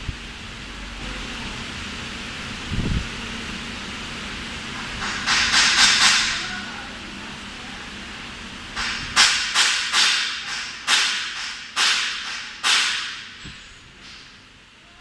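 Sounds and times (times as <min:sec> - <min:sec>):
low machine noise: 0:00.0 - 0:15.0.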